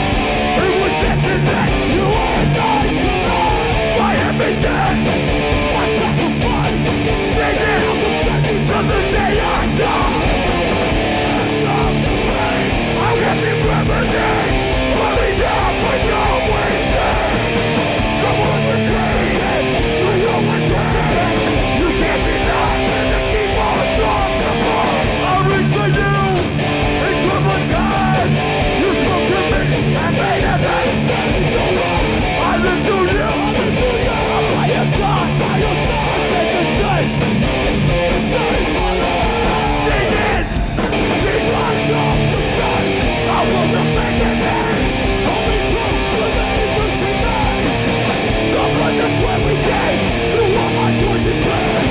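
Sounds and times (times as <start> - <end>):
punk band playing live: 0.0 - 51.9.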